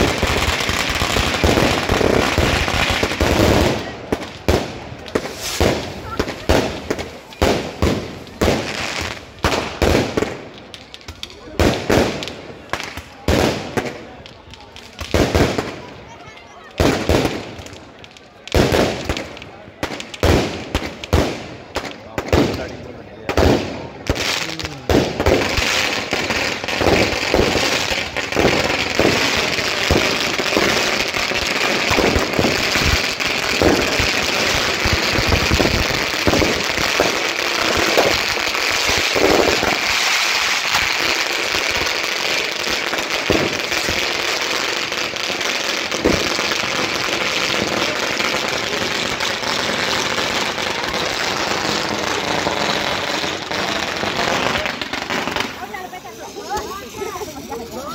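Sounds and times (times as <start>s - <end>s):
dense crackling hiss: 0.0s - 57.9s
fireworks bangs: 0.0s - 57.9s.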